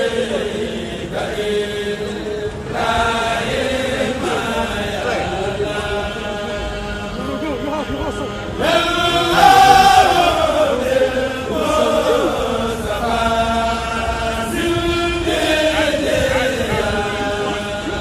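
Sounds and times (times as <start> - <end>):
person chanting in held notes: 0.0 - 18.0.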